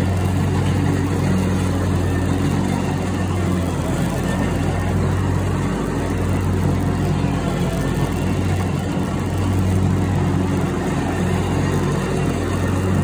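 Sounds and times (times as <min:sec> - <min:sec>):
mower engine droning: 0:00.0 - 0:13.0.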